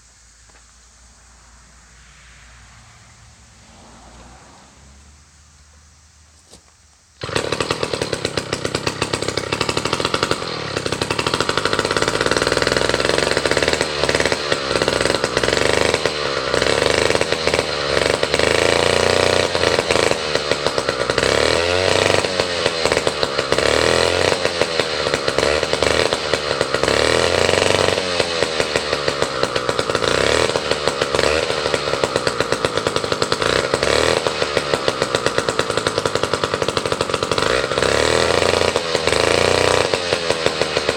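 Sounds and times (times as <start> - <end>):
two-stroke chainsaw engine running: 6.5 - 40.9.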